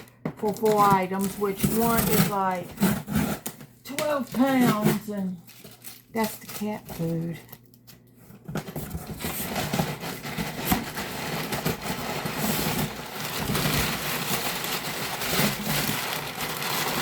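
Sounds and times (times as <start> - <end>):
paper packing crumpling: 0.0 - 7.9, 8.5 - 17.0.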